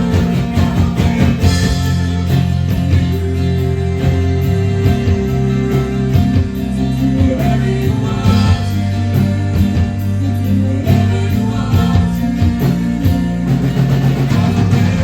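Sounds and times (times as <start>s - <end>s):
band playing instrumental: 0.0s - 15.0s.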